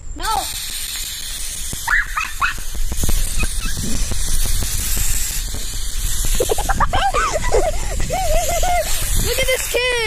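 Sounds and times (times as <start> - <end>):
aerosol can spraying hiss: 0.2 - 10.0.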